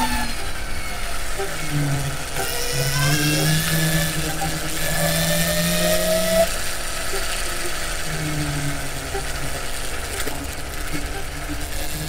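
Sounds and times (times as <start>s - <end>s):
electric scooter motor whining: 0.0s - 12.0s.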